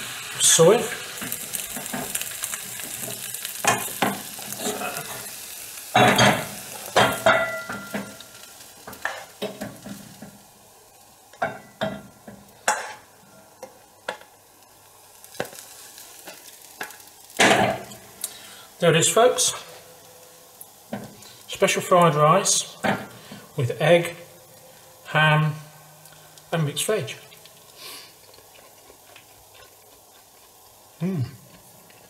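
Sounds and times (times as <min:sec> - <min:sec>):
rice sizzling in a wok: 0:00.0 - 0:32.0.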